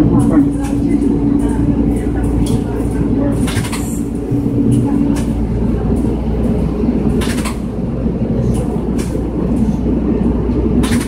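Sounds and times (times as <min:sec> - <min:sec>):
vehicle motor and tyre rumble: 0:00.0 - 0:11.0.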